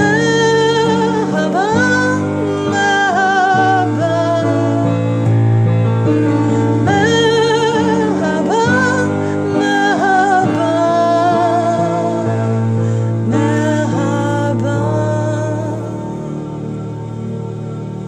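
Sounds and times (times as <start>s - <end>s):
woman singing with vibrato: 0.0s - 5.3s, 6.5s - 16.3s.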